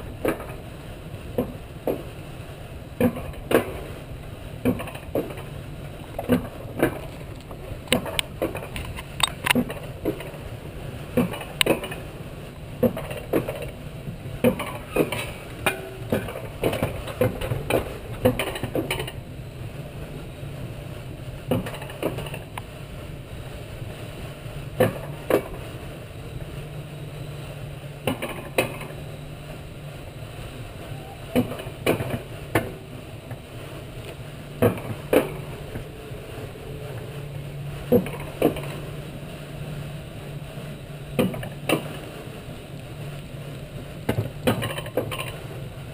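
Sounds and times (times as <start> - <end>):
coaster sled on steel rail: 0.0 - 45.9
low hum: 0.0 - 45.9.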